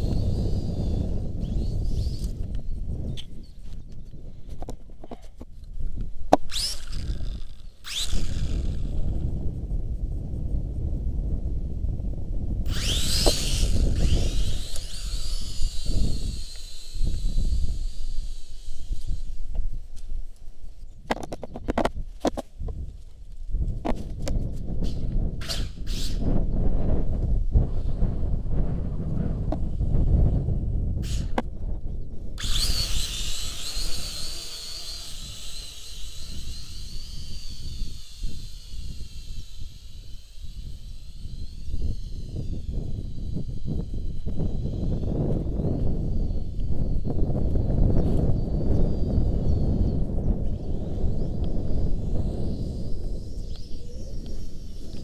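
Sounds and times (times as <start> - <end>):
quadcopter motors whining: 0.0 - 22.4, 23.8 - 55.0
wind buffeting microphone: 0.0 - 55.0.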